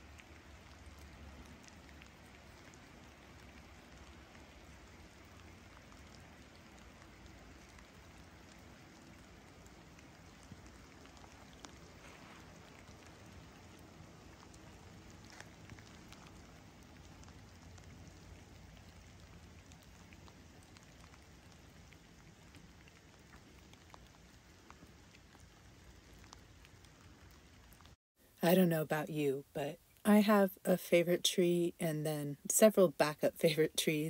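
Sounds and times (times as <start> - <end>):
light rain on water: 0.0 - 34.0.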